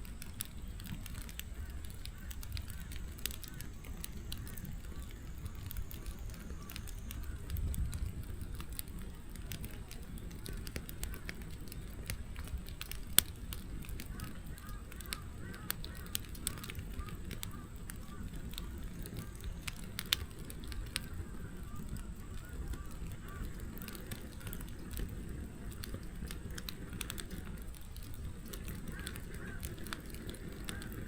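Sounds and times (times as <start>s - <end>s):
rush of flames: 0.0s - 31.0s
wood fire crackling and popping: 0.0s - 31.0s.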